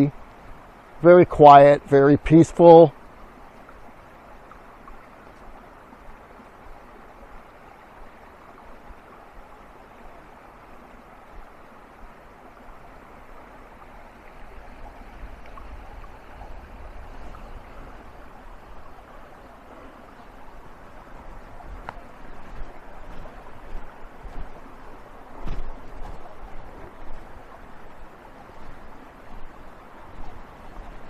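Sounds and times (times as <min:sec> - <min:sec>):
creek running over rocks: 0:00.0 - 0:31.0.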